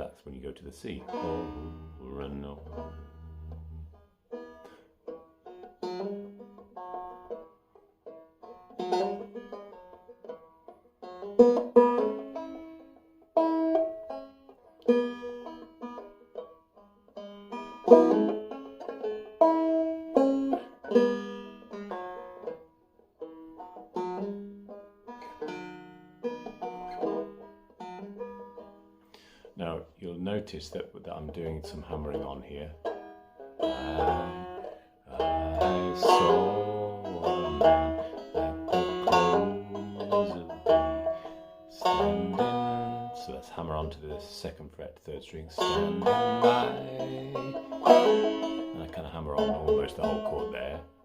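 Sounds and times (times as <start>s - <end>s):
banjo melody: 0.0s - 51.0s.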